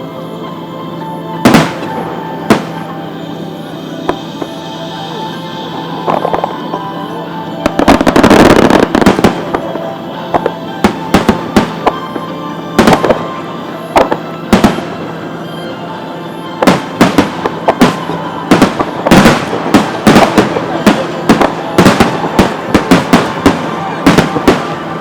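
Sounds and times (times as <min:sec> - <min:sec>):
music playing: 0:00.0 - 0:25.0
fireworks bursting with echoing rumble: 0:01.3 - 0:25.0.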